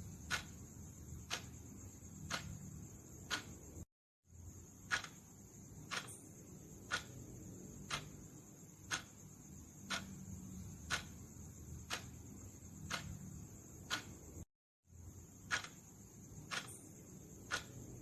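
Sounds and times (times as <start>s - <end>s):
timer ticking: 0.0s - 3.8s, 4.8s - 14.5s, 15.4s - 18.0s.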